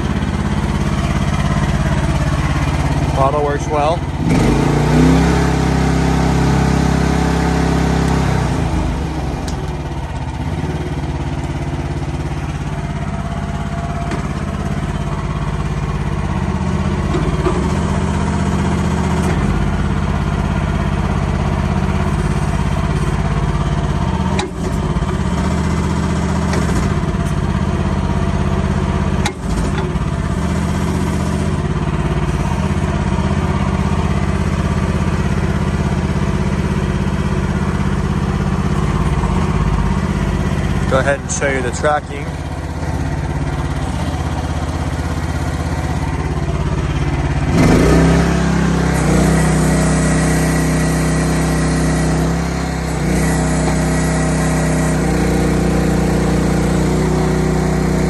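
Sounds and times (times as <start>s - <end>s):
small gasoline engine running: 0.0s - 58.0s.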